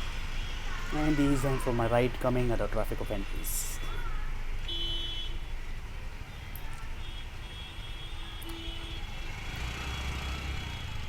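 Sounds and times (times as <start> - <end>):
vehicles idling at traffic signal: 0.0 - 11.0.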